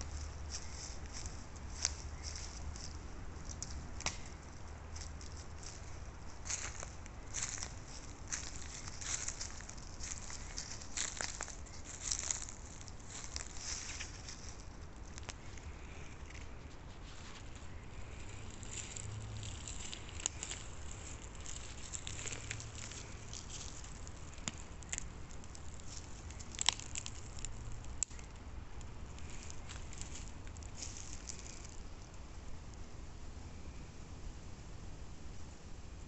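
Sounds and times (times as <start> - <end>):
footsteps crunching dry leaves: 0.0 - 32.1.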